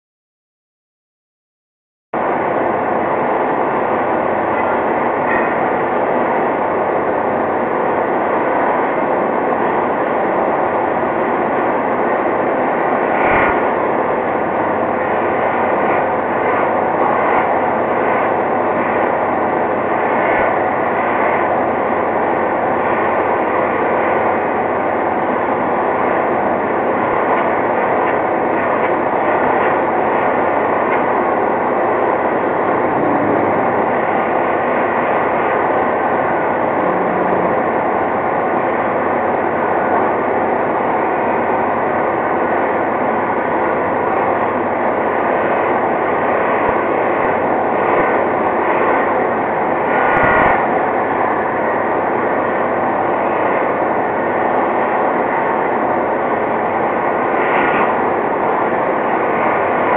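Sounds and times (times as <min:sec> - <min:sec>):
polishing machine running loudly: 0:08.4 - 0:59.9.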